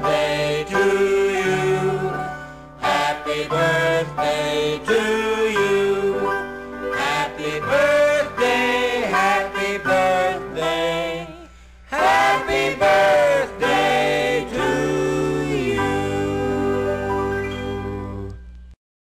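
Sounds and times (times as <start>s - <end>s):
song with sung vocals: 0.0s - 18.5s.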